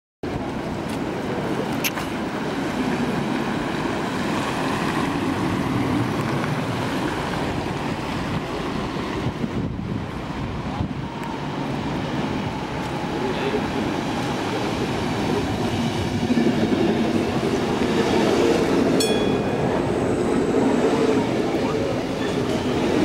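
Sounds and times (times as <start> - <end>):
train rumbling: 0.2 - 23.0.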